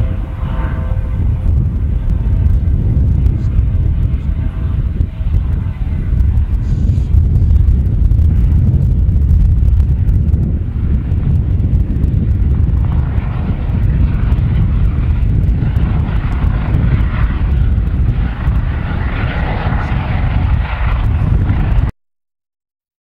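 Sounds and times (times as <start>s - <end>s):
helicopter rotor rumble: 0.0s - 21.9s
rushing turbine noise: 0.0s - 21.9s.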